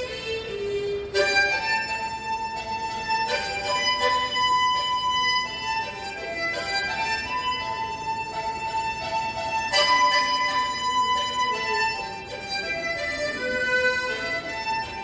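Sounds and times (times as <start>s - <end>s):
harmonica slow melody: 0.0s - 15.0s.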